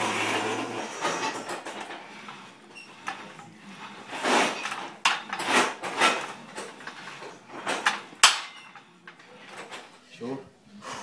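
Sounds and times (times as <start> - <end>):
gym weights clanking: 0.0 - 10.0.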